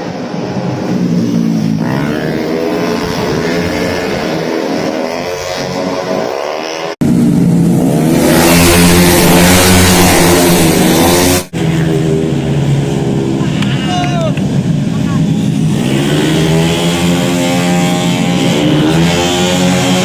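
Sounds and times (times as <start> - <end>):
racing scooter engines revving: 0.1 - 20.0.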